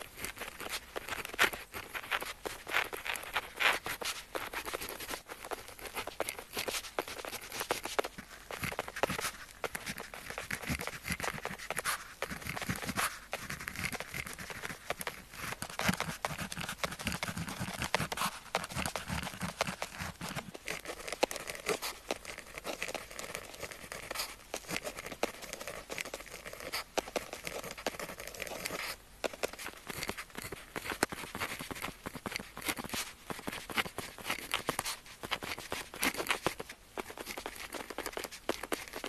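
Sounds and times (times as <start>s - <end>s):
pen scratching on paper: 0.0s - 39.0s.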